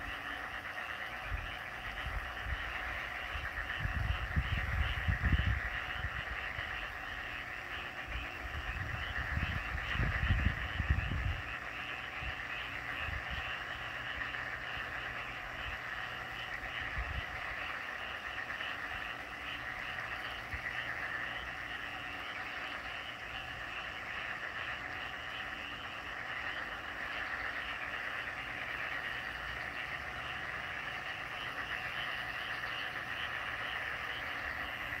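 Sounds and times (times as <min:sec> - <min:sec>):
chorus of frogs calling: 0:00.0 - 0:35.0.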